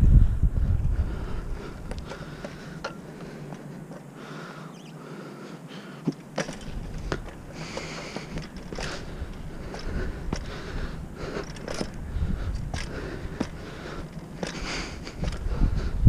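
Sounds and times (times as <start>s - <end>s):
bike clicks and rattles: 0.8s - 5.0s, 6.0s - 15.9s.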